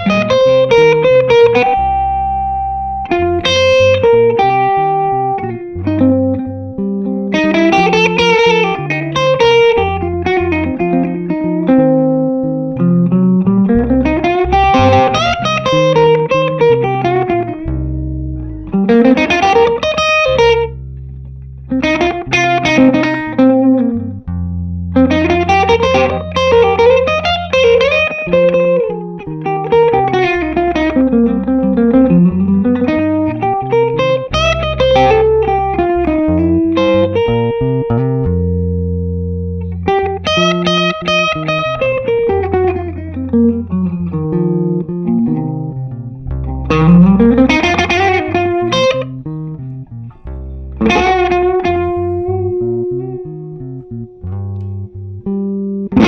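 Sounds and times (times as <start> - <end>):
electric guitar blues lead: 0.0 - 56.0
held bass notes: 0.0 - 56.0.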